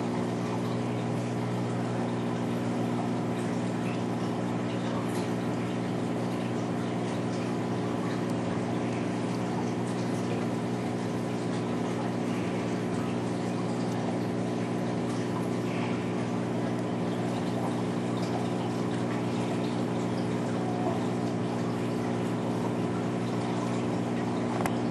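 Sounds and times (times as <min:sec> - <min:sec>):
circulating water trickling: 0:00.0 - 0:24.9
water pump humming: 0:00.0 - 0:24.9.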